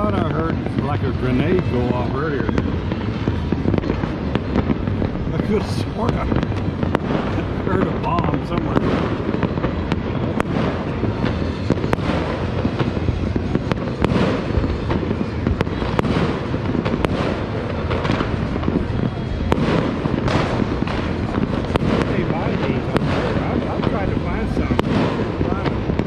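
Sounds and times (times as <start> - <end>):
distant fireworks rumble and crackle: 0.0 - 26.0
sharp firecracker reports: 0.0 - 26.0.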